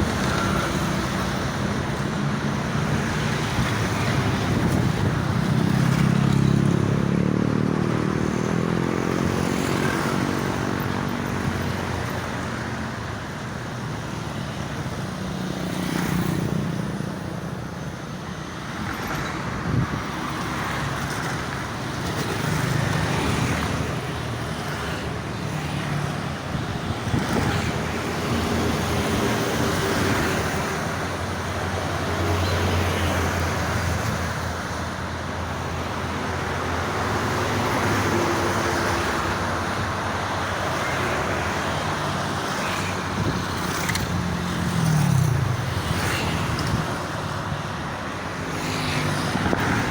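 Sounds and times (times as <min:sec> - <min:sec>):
heavy highway traffic: 0:00.0 - 0:49.9.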